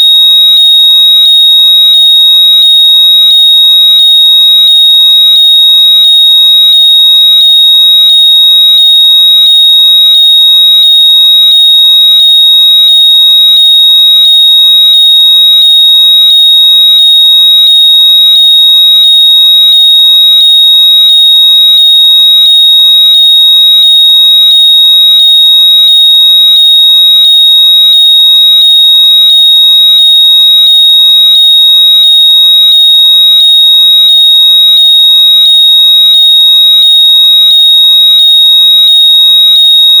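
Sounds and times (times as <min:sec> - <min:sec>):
pulsing high-pitched electronic tone: 0:00.0 - 0:40.0.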